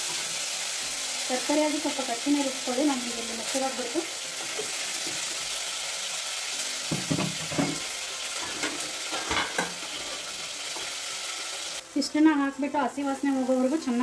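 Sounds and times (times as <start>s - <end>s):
paste sizzling in hot oil: 0.0s - 14.0s.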